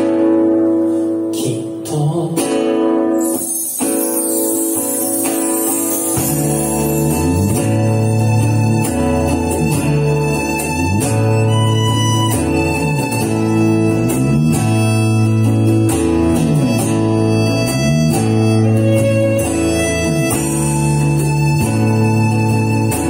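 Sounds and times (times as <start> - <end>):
guitar: 0.0 - 23.0
electric bass sliding notes: 3.1 - 23.0
violin: 3.1 - 23.0.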